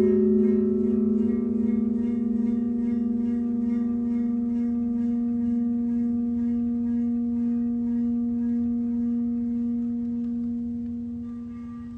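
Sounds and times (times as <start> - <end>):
metal basin singing hum: 0.0 - 11.9.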